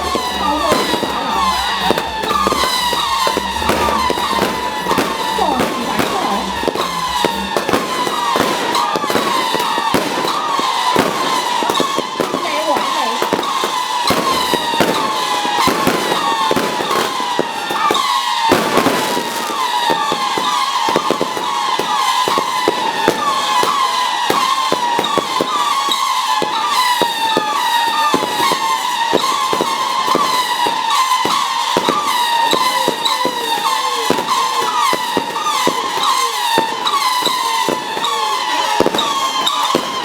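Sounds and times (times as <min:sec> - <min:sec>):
falling firework whistles: 0:00.0 - 0:40.0
fireworks crackling and banging: 0:00.0 - 0:40.0.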